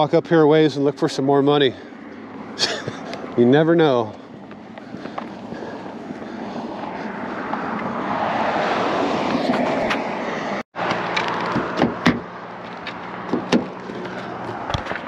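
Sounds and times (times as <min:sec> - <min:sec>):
passing car road noise: 0:00.0 - 0:15.0.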